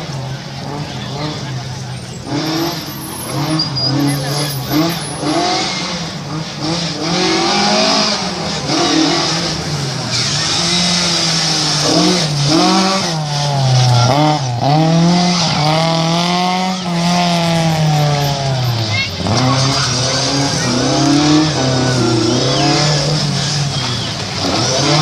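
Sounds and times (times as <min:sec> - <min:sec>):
rally car engine running hard: 0:00.0 - 0:25.0.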